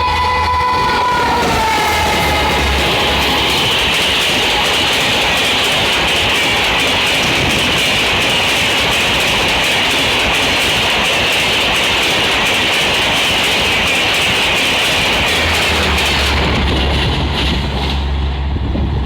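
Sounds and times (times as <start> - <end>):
train rushing past: 0.0 - 19.0
wheel clicks over rail joints: 0.6 - 18.0.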